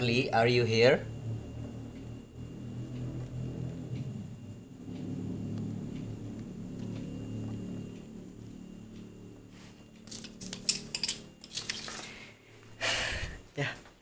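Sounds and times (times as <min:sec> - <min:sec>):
faint high whine: 0:00.0 - 0:14.0
low steady hum: 0:00.0 - 0:14.0.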